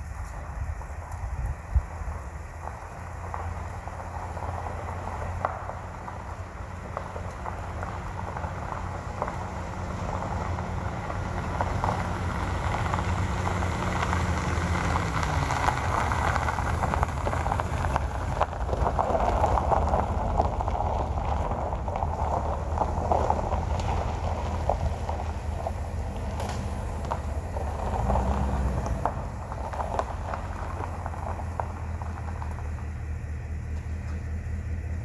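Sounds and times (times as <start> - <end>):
low vehicle engine: 0.0 - 35.0
tyres hissing on road: 0.0 - 35.0.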